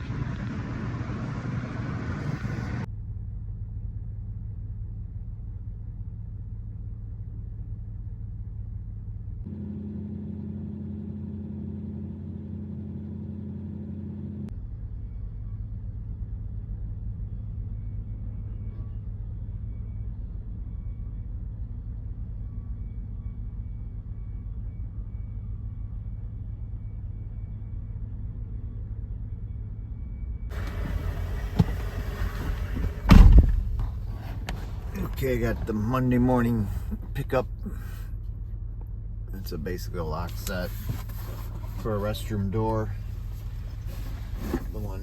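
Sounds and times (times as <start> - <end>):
vehicle engine and road rumble: 0.0 - 45.0.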